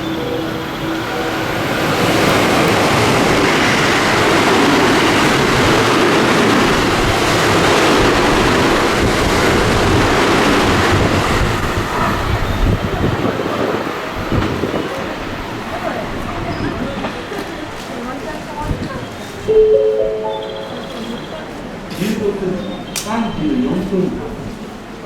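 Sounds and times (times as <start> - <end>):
train passing at speed: 0.0 - 22.9.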